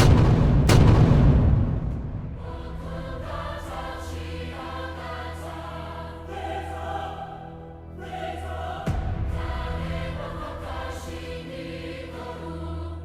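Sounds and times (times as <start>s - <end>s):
choir singing held notes: 2.0s - 13.0s.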